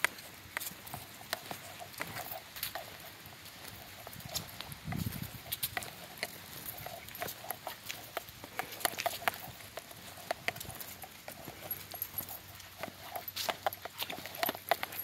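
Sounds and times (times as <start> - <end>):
dog claws clicking on pavement: 0.0 - 15.0.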